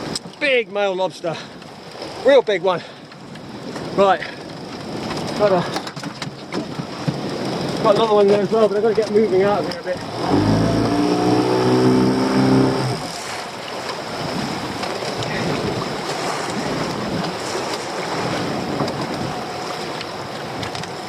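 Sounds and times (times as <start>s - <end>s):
water splashing against hull: 0.0s - 21.0s
wind on microphone: 3.2s - 21.0s
boat engine running: 3.3s - 21.0s.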